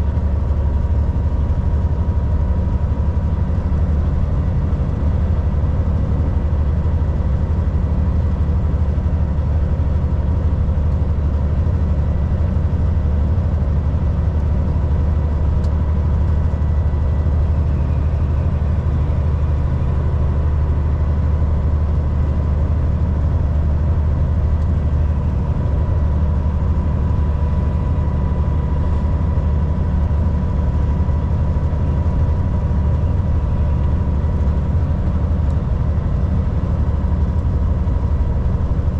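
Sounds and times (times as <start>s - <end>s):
road rumble: 0.0s - 38.9s
truck diesel engine cruising: 0.0s - 38.9s.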